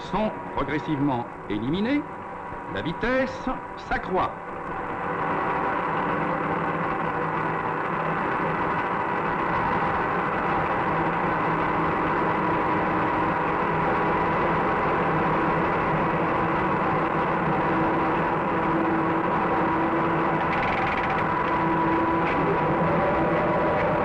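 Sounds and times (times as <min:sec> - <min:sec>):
electric locomotive running noise: 0:00.0 - 0:24.0.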